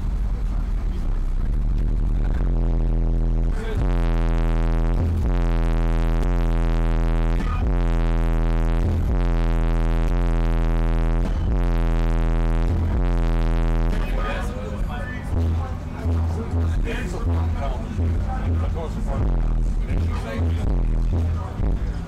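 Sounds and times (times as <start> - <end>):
deep bass tone: 0.0 - 22.0.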